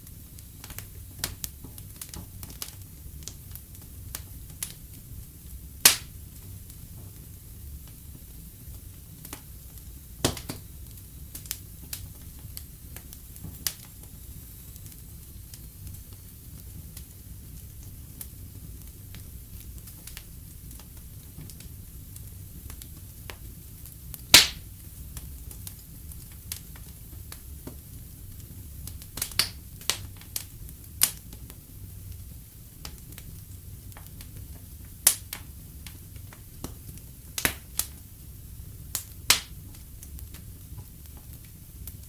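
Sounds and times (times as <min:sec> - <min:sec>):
burning wood crackling and popping: 0:00.0 - 0:42.0
low rumble of flames: 0:00.0 - 0:42.0.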